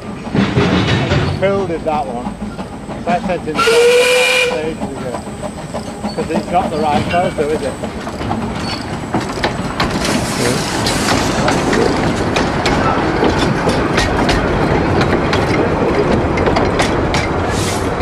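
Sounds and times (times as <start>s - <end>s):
train rumbling past: 0.0s - 18.0s
wheels clicking over rail joints: 0.0s - 18.0s.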